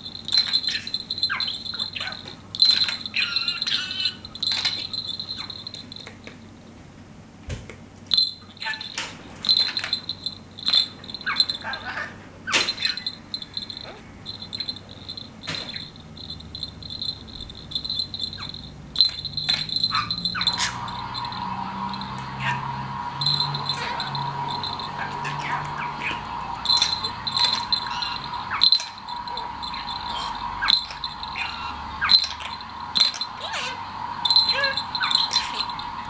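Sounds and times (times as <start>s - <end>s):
small high ringing jingle: 0.0s - 6.3s, 8.1s - 36.0s.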